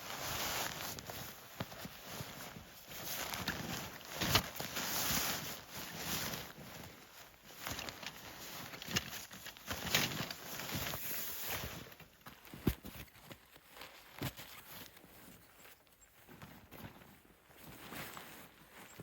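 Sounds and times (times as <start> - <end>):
footsteps crunching through snow: 0.0 - 19.0.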